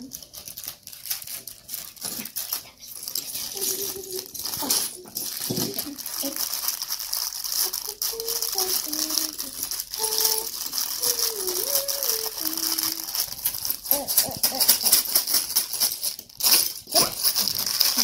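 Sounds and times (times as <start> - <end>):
plastic toy bricks clattering: 0.0 - 18.0.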